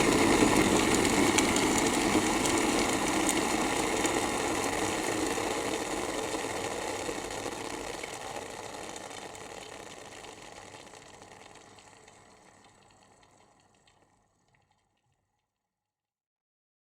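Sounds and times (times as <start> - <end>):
electric kettle boiling: 0.0 - 15.2.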